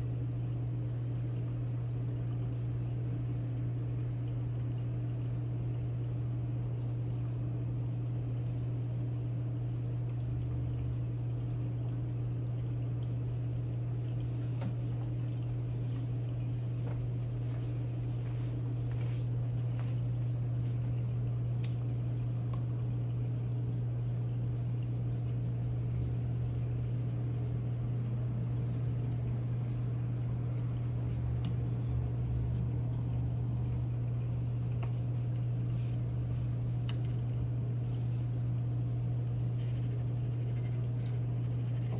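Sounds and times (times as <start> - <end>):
low pump hum: 0.0 - 41.9
water pouring and trickling: 0.0 - 41.9.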